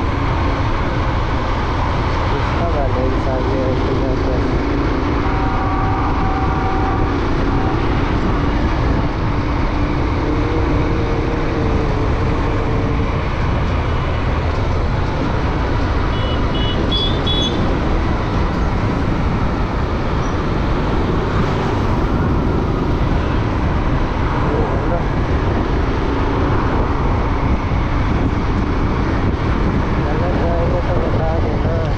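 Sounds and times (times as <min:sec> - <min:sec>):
wind and road noise: 0:00.0 - 0:31.9.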